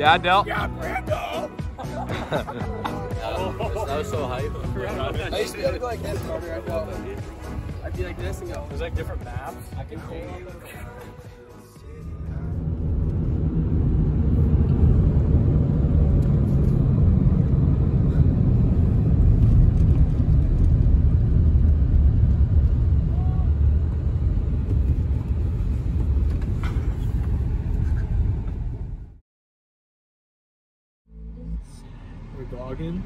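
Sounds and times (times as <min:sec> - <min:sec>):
road and wind noise in car: 0:00.0 - 0:29.2, 0:31.2 - 0:33.0.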